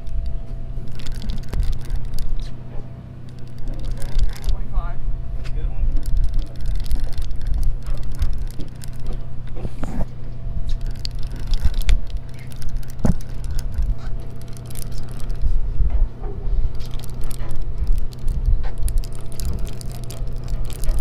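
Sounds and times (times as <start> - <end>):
boat motor humming: 0.0 - 21.0
wind on microphone: 3.4 - 21.0.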